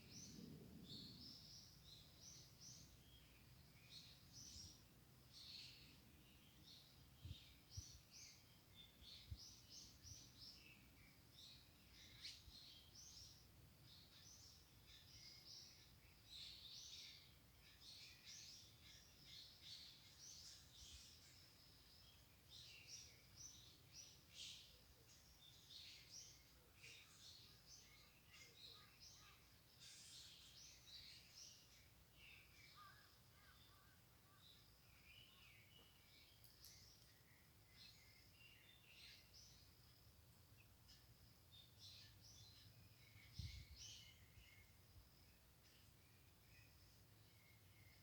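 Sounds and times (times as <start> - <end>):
faint bird chirping: 0.0 - 48.0.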